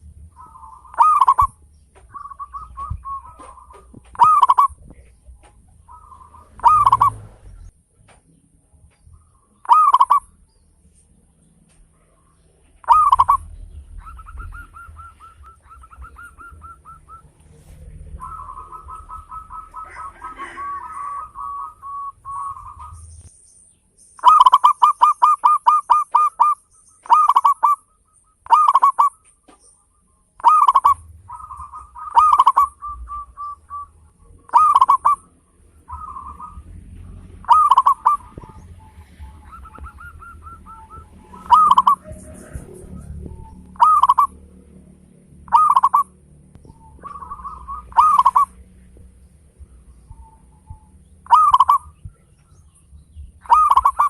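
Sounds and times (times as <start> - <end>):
dove cooing: 0.0 - 7.7, 9.2 - 10.4, 11.9 - 23.3, 24.2 - 54.0.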